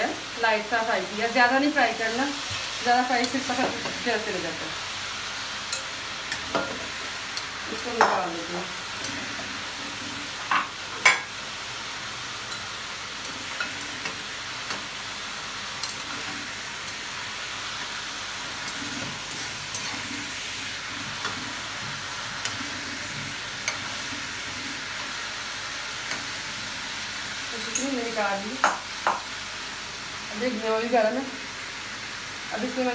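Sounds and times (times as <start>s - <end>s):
chicken sizzling in oil: 0.0s - 32.9s.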